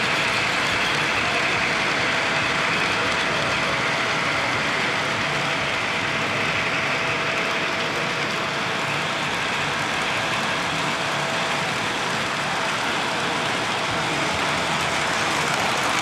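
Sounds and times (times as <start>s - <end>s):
model trains rolling hiss: 0.0s - 16.0s.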